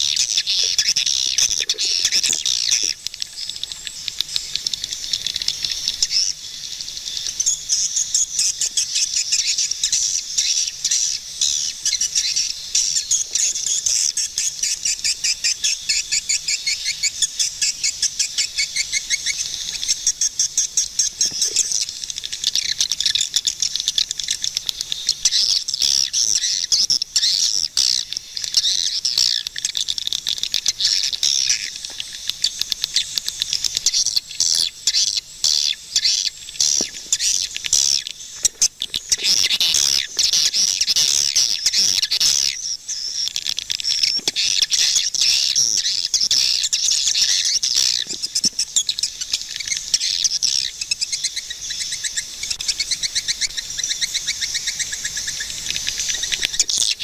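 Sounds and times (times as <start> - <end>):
swiftlets chirping and twittering: 0.0 - 57.0.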